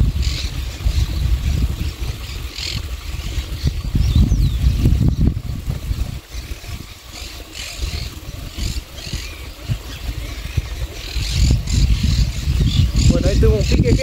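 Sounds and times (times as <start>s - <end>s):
wind buffeting microphone: 0.0s - 14.0s
scratchy bird calls: 0.2s - 14.0s.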